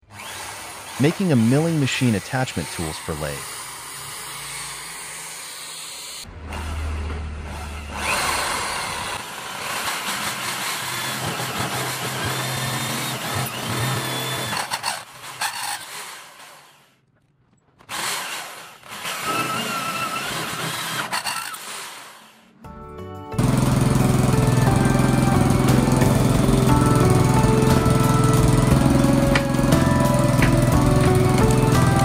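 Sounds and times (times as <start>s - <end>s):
electric drill cutting into steel: 0.0s - 17.0s, 17.8s - 22.5s, 23.4s - 32.0s.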